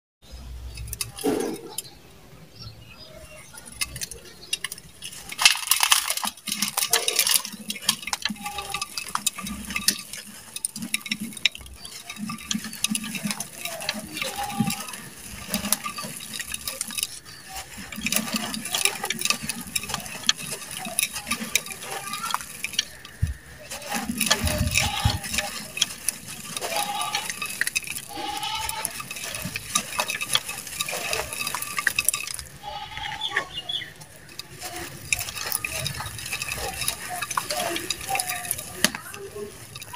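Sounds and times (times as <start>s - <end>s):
cement blocks crumbling in hands: 0.4s - 1.9s, 3.3s - 39.9s
sand pouring into clay pot: 3.3s - 39.9s.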